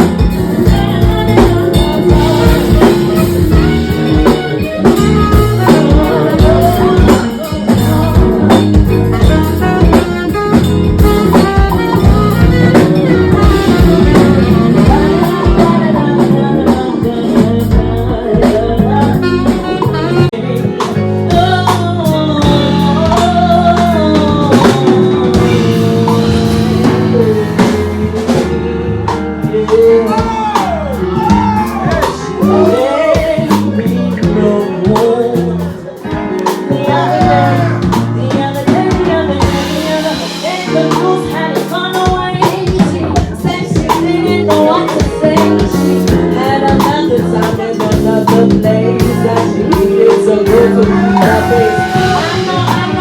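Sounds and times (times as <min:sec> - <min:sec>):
backing instruments: 0:00.0 - 0:53.0
drum kit: 0:00.0 - 0:53.0
person singing: 0:00.0 - 0:53.0.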